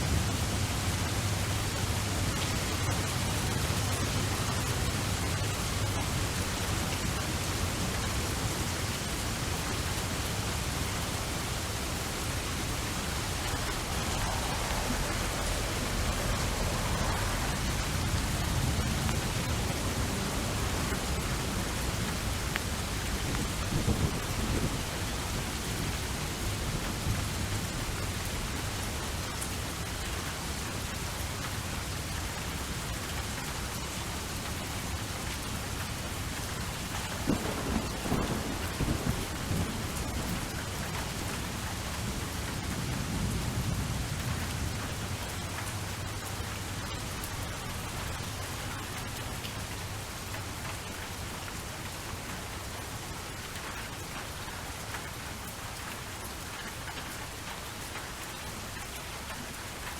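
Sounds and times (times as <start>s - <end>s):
thunder rumbling and crackling: 0.0s - 52.8s
steady rain: 0.0s - 59.9s.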